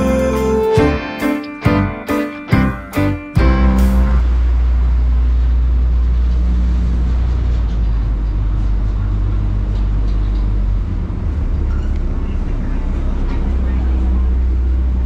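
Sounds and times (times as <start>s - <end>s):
ferry engine droning: 0.0s - 15.0s.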